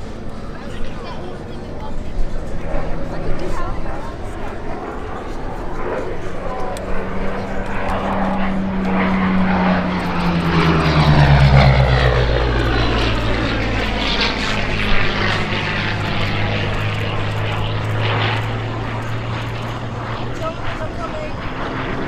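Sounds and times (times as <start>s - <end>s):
propeller aircraft engine drone: 0.0s - 22.0s.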